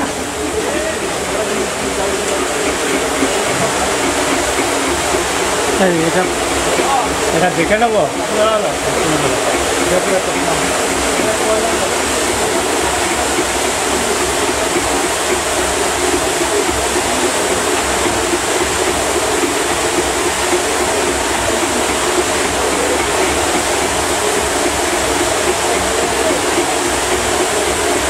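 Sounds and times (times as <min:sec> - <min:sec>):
sugar syrup boiling: 0:00.0 - 0:28.0.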